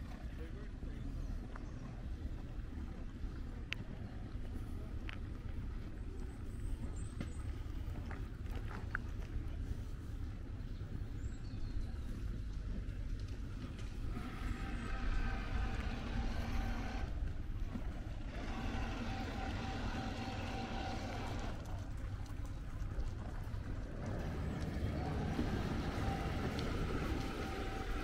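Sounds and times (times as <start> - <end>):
motorboat engine running: 0.0 - 28.0.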